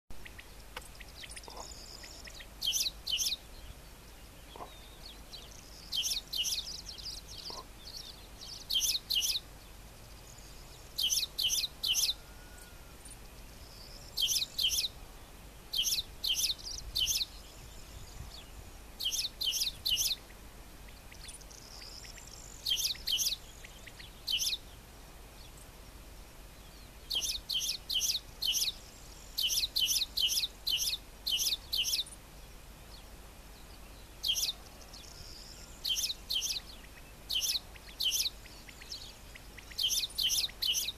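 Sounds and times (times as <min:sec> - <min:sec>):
faint bird twittering: 0:00.1 - 0:15.0, 0:15.7 - 0:24.8, 0:25.4 - 0:40.9
sparrow chirping: 0:00.2 - 0:15.0, 0:15.7 - 0:24.8, 0:26.6 - 0:32.2, 0:32.9 - 0:40.9.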